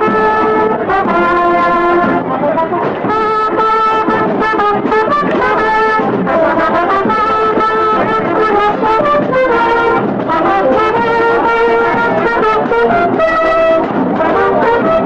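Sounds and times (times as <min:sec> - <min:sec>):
brass music: 0:00.0 - 0:15.0.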